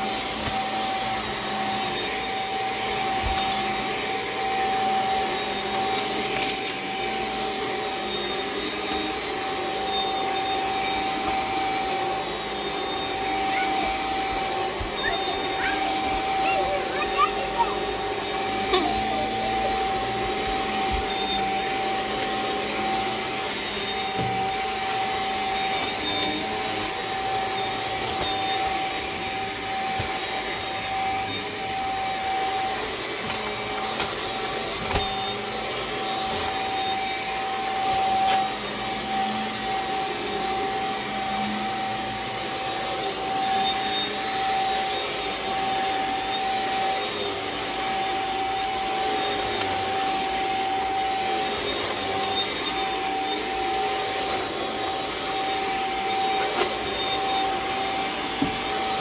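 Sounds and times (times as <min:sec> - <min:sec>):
stick vacuum running: 0:00.0 - 0:59.0.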